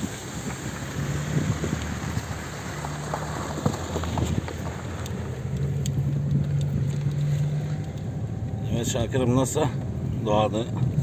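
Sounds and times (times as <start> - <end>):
car engine running: 0.0 - 11.0
road and tyre noise: 0.0 - 11.0.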